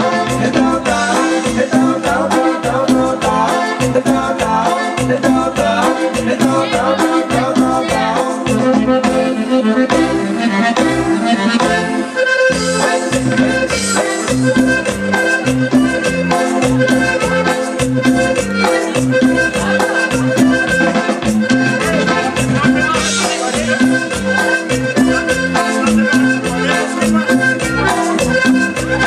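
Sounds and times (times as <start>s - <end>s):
accordion-led latin dance music: 0.0s - 29.0s.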